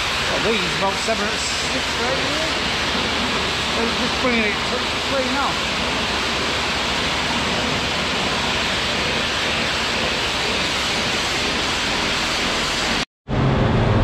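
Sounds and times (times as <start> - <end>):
pressure washer spraying: 0.0 - 13.1.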